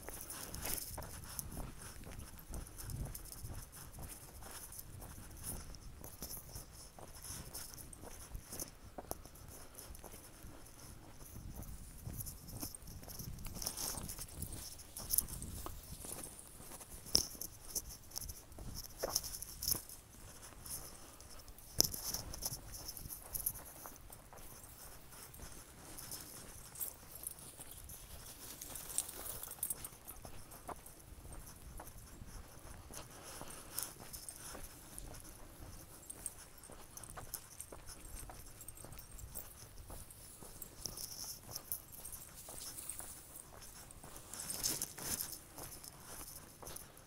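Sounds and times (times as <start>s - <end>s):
dry grass rustling: 0.0s - 47.0s
footsteps on dirt trail: 0.0s - 47.0s.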